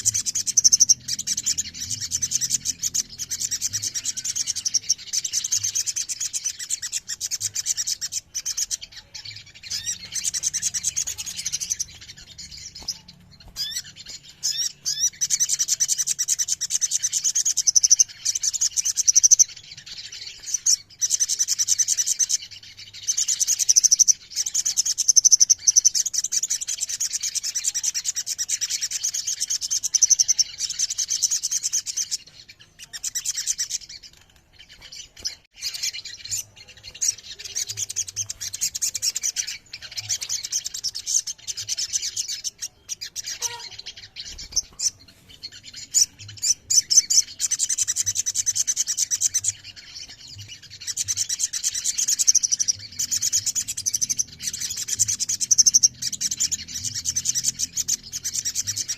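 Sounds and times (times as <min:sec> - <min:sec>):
bird high-pitched trilling: 0:00.0 - 0:58.9.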